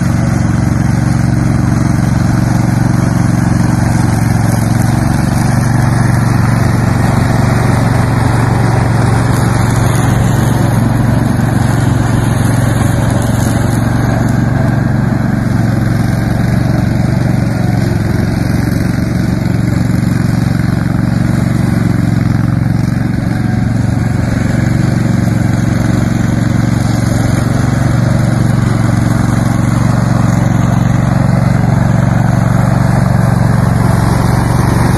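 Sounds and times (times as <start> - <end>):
riding lawn mower engine: 0.0 - 34.9.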